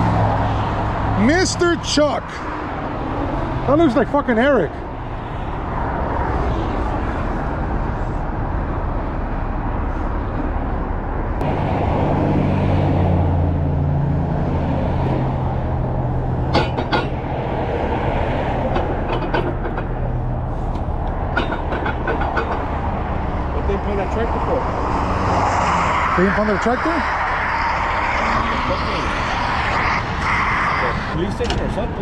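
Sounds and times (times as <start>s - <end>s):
road rumble: 0.0s - 32.0s
truck engine drone: 0.0s - 32.0s.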